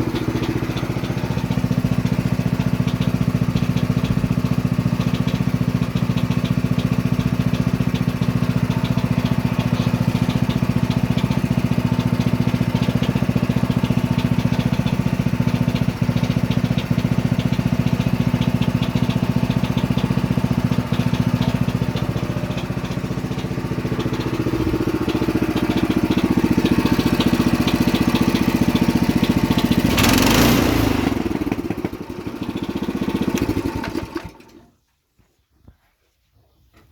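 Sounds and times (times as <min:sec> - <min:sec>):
tractor engine running: 0:00.0 - 0:34.7.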